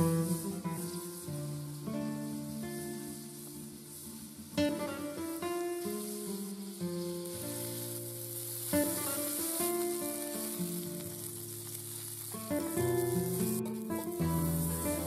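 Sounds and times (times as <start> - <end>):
prawns sizzling in hot oil: 0.0 - 15.0.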